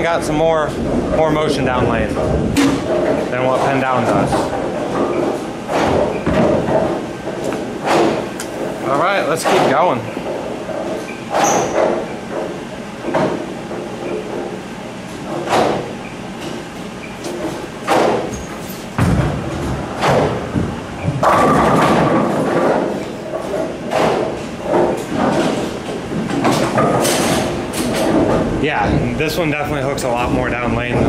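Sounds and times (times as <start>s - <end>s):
bowling ball rolling: 0.0s - 16.7s, 17.3s - 31.0s
bowling pins clattering: 0.0s - 31.0s.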